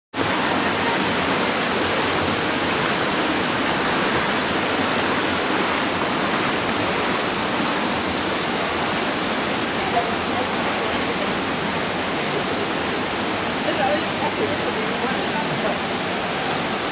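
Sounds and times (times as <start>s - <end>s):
swimming pool hall rushing noise: 0.1s - 16.9s.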